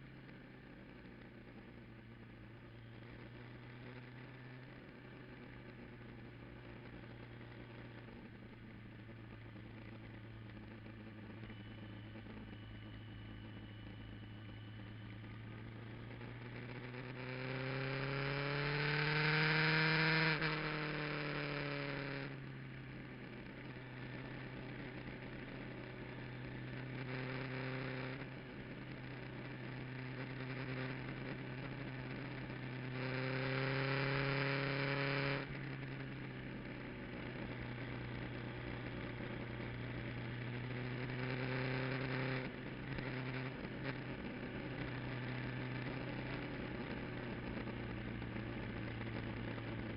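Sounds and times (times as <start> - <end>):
motorcycle engine revving: 2.8 - 49.9.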